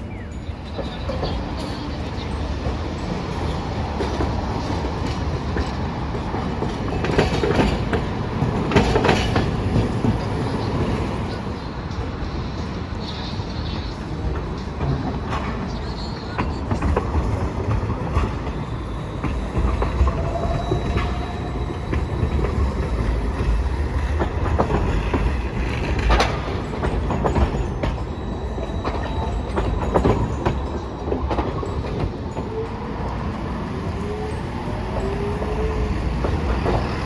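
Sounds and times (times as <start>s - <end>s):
streetcar rumble: 0.0s - 37.0s
wheels clacking over rail joints: 0.0s - 37.0s.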